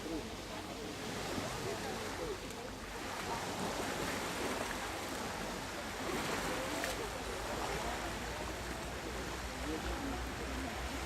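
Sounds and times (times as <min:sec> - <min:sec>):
faint voices: 0:00.0 - 0:11.0
water rushing: 0:00.0 - 0:11.0.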